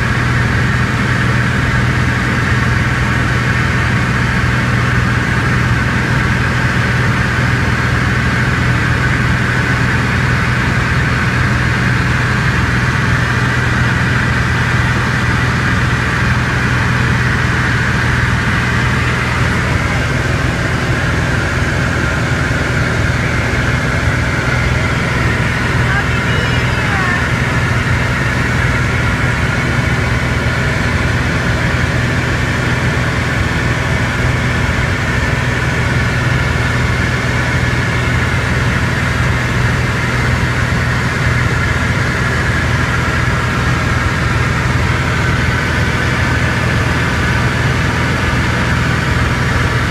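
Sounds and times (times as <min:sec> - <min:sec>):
small aircraft engine droning: 0:00.0 - 0:49.9.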